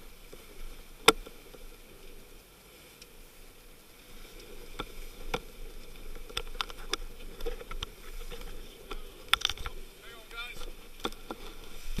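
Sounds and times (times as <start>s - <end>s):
sea water splashing along hull: 0.0s - 12.0s.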